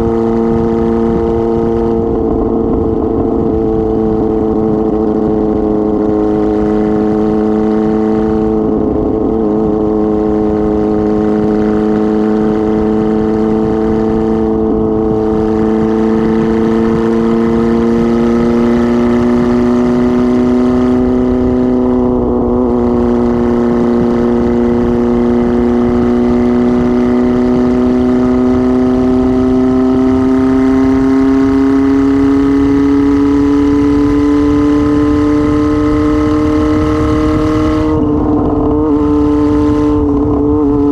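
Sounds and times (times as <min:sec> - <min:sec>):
unmuffled motorcycle engine running: 0:00.0 - 0:40.9.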